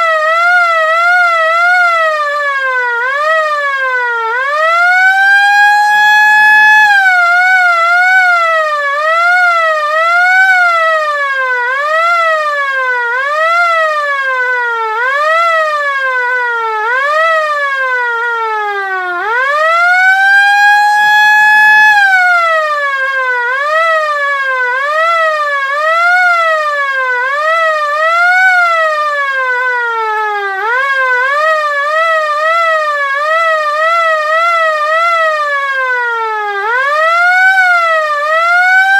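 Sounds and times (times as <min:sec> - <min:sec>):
air raid siren wailing: 0:00.0 - 0:38.9.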